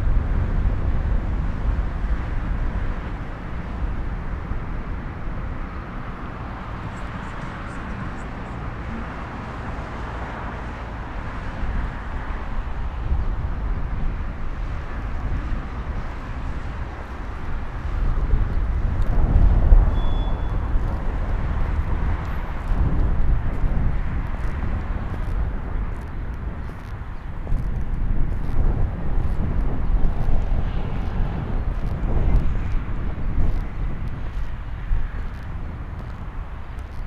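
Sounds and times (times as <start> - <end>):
distant traffic rumble: 0.0 - 37.0
wind: 0.0 - 37.0.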